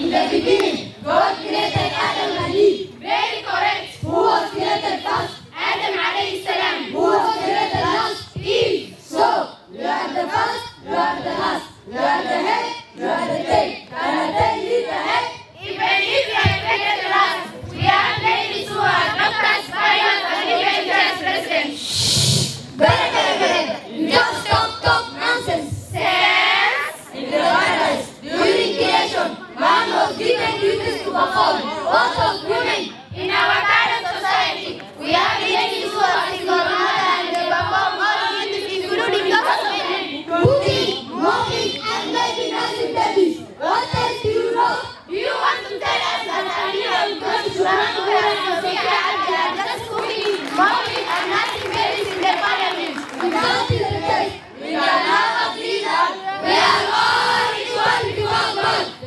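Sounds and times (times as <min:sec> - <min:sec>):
girls singing in unison: 0:00.0 - 0:59.0.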